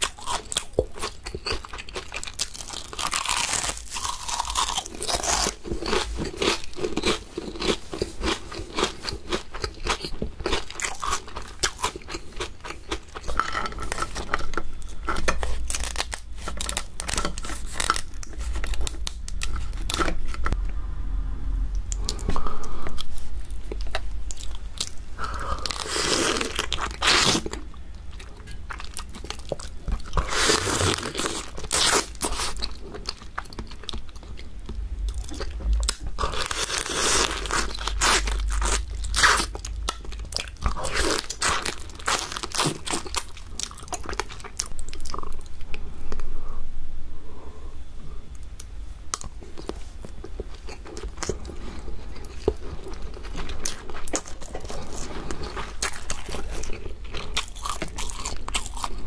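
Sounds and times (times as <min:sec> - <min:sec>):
close chewing: 0:00.0 - 0:20.6, 0:21.9 - 0:45.7, 0:49.2 - 0:59.0
crunching through crab shell: 0:00.0 - 0:20.6, 0:23.8 - 0:45.2, 0:49.2 - 0:59.0.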